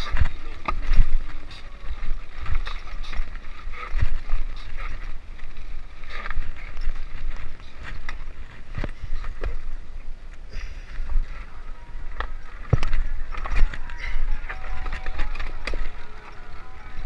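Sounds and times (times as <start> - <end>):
chain and frame rattling: 0.0 - 9.7, 12.2 - 17.0
bike tyre noise: 0.0 - 17.0
wind buffeting microphone: 0.0 - 17.0.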